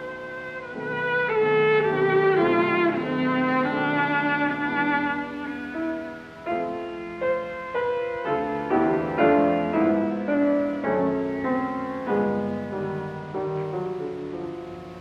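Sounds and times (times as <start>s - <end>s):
slow classical piano chords: 0.0s - 15.0s.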